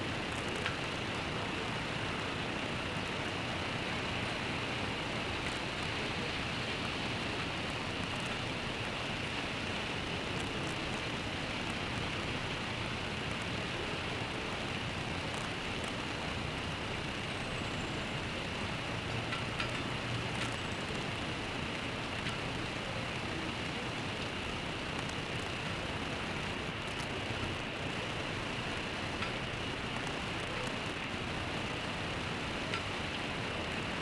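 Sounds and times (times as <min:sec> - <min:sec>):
steady rain hissing: 0:00.0 - 0:34.0.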